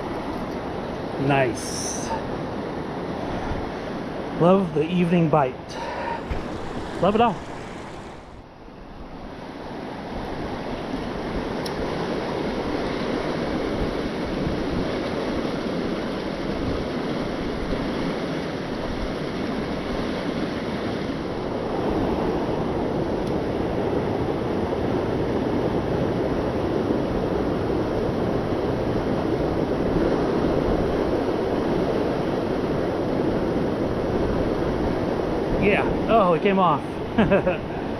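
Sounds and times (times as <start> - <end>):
river current rushing: 0.0 - 37.9.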